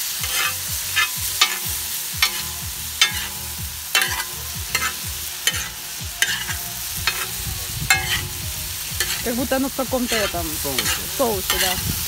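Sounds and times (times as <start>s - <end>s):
metal spoon scraping a pan: 0.0s - 8.4s, 9.0s - 9.4s, 10.0s - 12.0s
dumplings sizzling in a pan: 0.0s - 12.0s.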